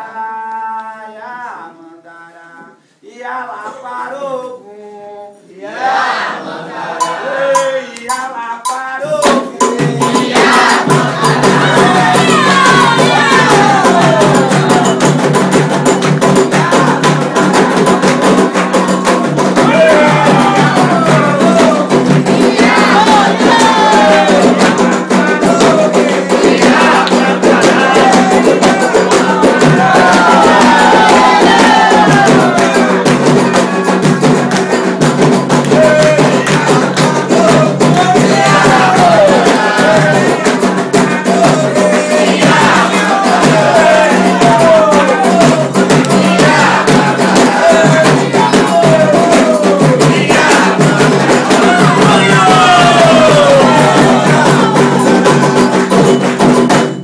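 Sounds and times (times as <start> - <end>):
voices singing chants: 0.0 - 56.9
hand drums and percussion: 5.6 - 57.0.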